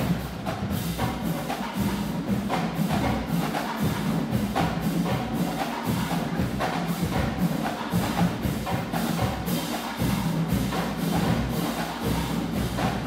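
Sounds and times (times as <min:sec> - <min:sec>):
drumline playing a cadence: 0:00.0 - 0:13.0.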